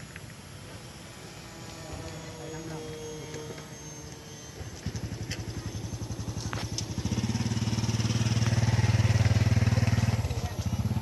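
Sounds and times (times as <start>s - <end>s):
engine running with pulsing beat: 0.1s - 11.0s.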